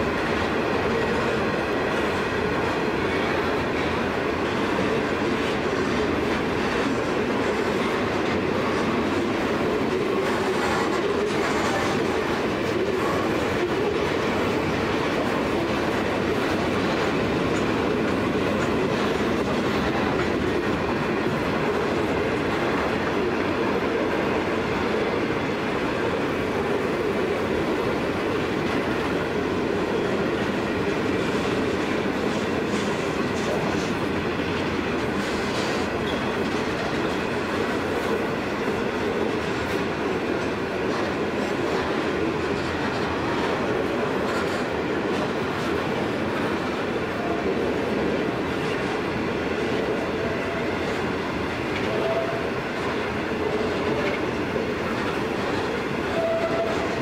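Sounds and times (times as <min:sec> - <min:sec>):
steel wheels on rails: 0:00.0 - 0:57.0.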